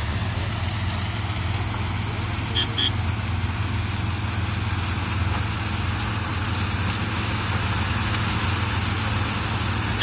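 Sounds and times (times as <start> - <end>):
diesel engine drone: 0.0 - 10.0
machinery noise: 0.0 - 10.0.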